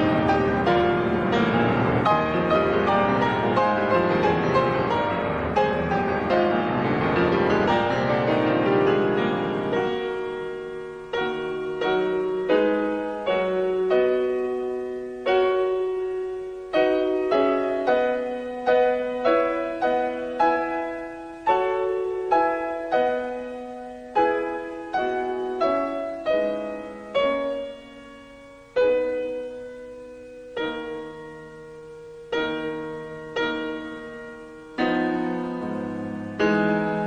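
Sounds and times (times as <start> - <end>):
solo piano playing: 0.0 - 37.0.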